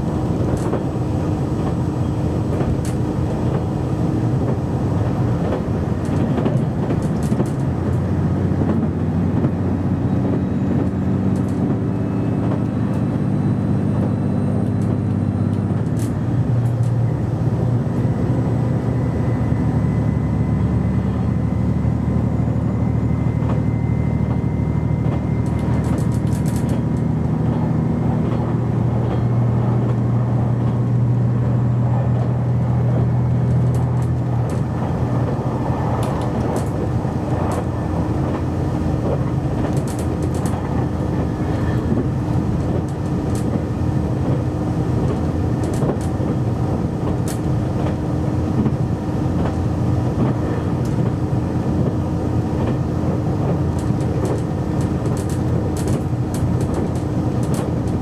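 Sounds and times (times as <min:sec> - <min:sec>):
diesel engine drone: 0:00.0 - 0:58.0
wheel and rail noise: 0:00.0 - 0:58.0.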